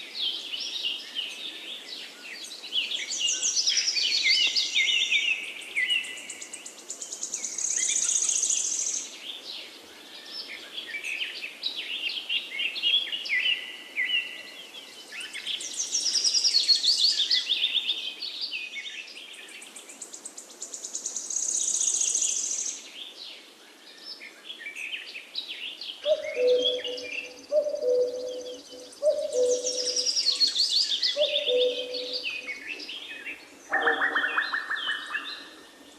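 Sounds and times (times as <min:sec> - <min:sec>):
low steady bird call: 0:00.0 - 0:35.9
songbirds singing: 0:00.0 - 0:35.9.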